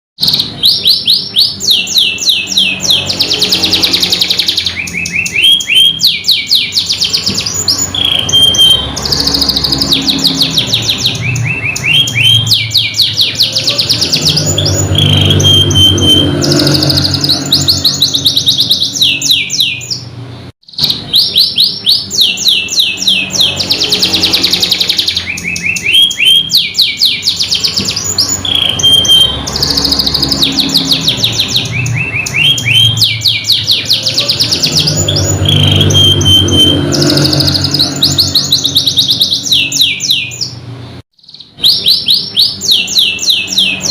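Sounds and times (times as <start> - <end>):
canary singing trills: 0.2 - 43.9.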